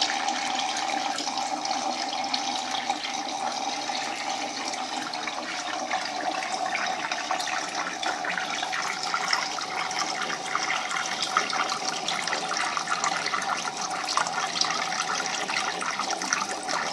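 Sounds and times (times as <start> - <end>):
water pouring into tank: 0.0 - 16.9.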